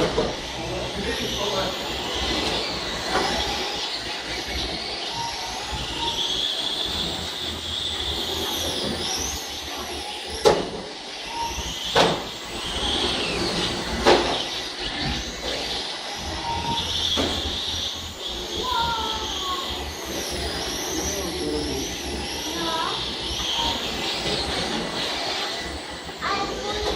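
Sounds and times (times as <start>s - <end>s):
model truck motors whining: 0.0s - 26.9s.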